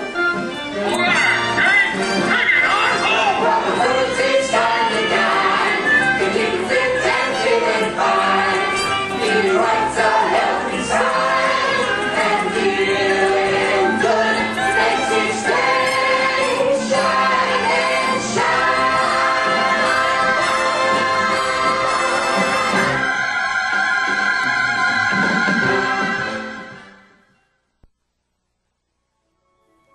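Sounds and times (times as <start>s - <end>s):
chorus singing stage music: 2.4s - 27.2s.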